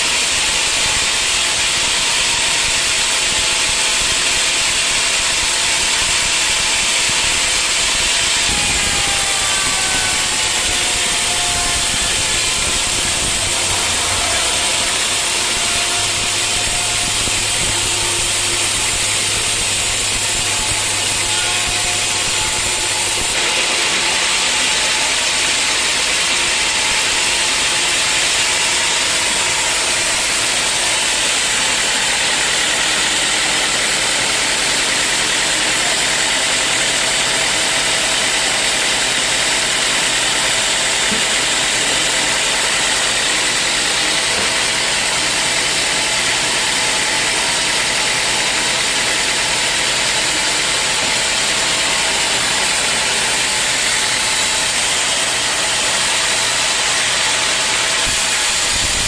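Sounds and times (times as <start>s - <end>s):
sawmill sawing log: 0.0s - 59.0s.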